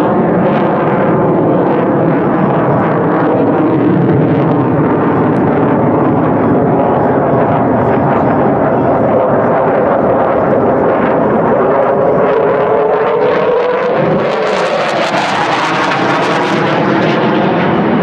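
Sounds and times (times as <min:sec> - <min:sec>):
fighter jet engine roar: 0:00.0 - 0:18.0.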